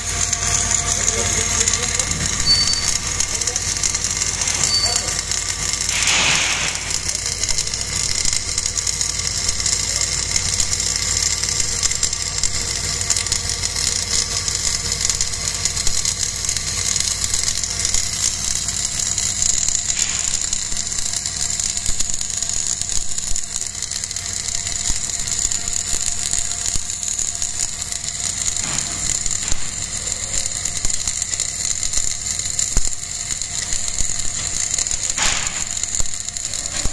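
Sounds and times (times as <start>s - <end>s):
welding arc crackling and hissing: 0.0s - 36.9s.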